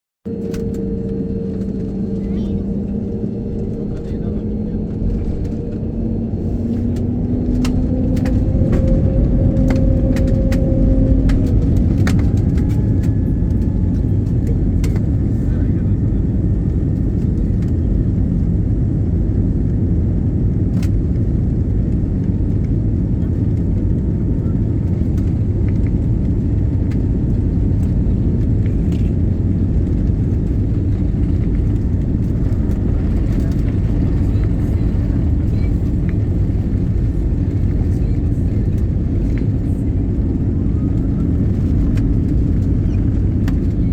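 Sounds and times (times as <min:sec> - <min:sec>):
airliner engines rumbling: 0:00.2 - 0:43.9.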